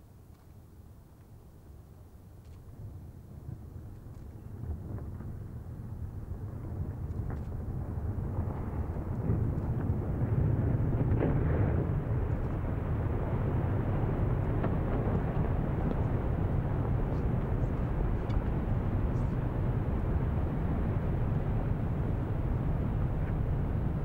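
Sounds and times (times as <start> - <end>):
avalanche rumbling: 3.3 - 24.0.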